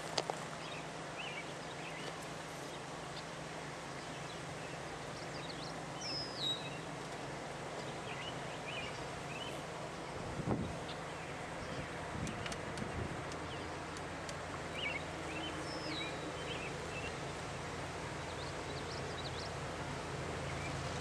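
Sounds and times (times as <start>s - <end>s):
open-air hiss: 0.0s - 21.0s.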